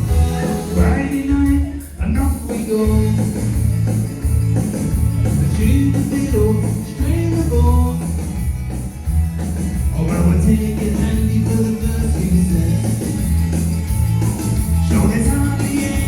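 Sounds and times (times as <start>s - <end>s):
country band playing: 0.0s - 16.0s
guitar melody: 0.0s - 16.0s
pulsing bass line: 0.0s - 16.0s.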